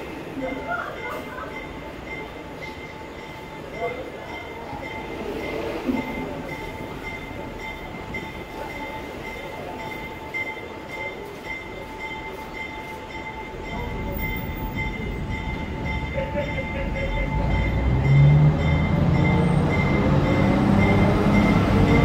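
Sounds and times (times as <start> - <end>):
subway train rumble: 0.0 - 22.0
subway train whine: 0.0 - 22.0.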